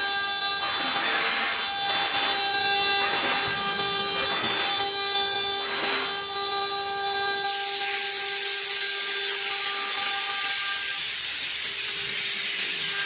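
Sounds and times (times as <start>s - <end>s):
router spindle whine: 0.0s - 13.0s.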